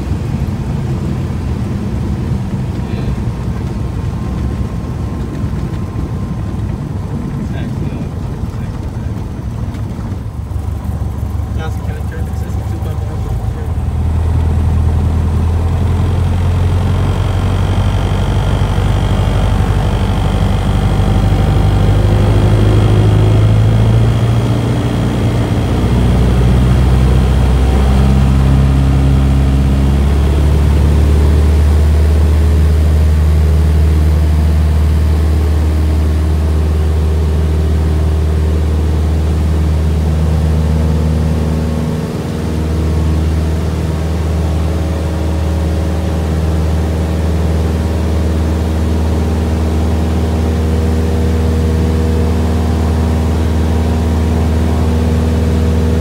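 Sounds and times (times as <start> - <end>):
airplane engine drone: 0.0 - 56.0.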